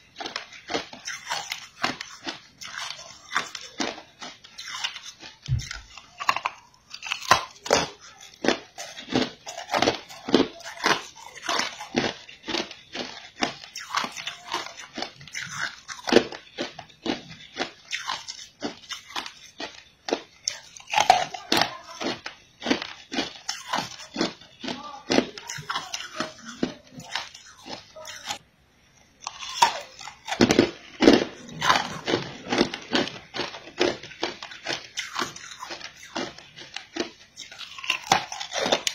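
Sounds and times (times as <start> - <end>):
person crunching ice: 0.1 - 28.4, 29.2 - 38.9.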